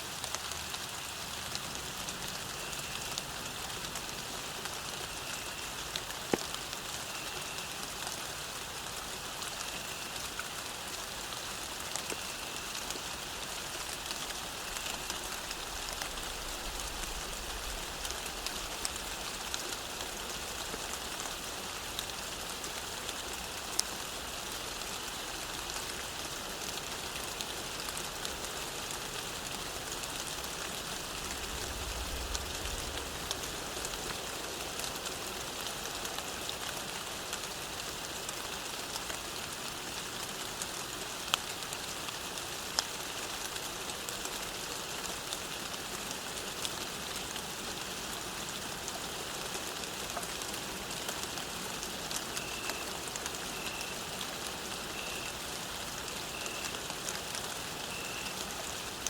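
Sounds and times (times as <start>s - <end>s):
close raindrops striking: 0.0s - 59.0s
steady rain falling: 0.0s - 59.0s.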